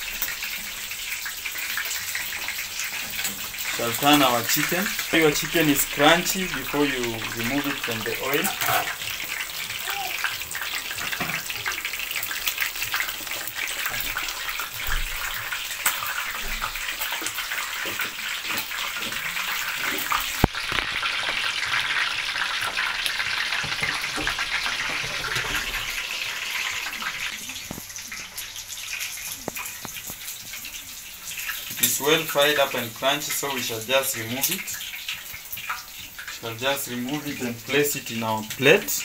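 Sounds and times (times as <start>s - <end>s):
chicken deep-frying in oil: 0.0s - 39.0s.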